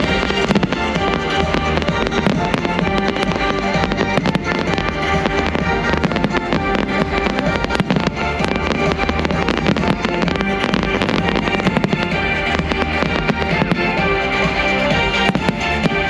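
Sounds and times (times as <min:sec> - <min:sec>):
fireworks bangs and crackles: 0:00.0 - 0:16.0
show music over outdoor speakers: 0:00.0 - 0:16.0.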